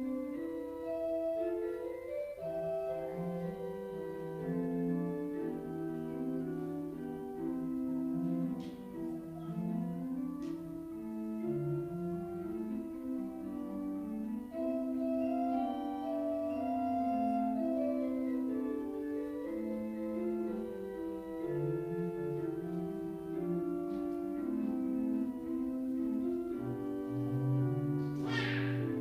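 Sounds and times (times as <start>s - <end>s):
church organ chords: 0.0s - 29.0s.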